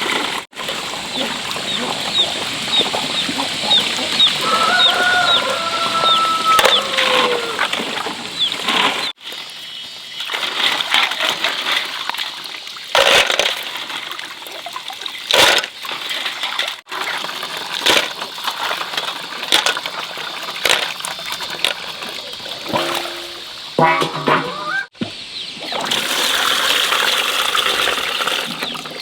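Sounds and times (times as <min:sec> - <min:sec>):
water splashing and sloshing: 0:00.0 - 0:29.0.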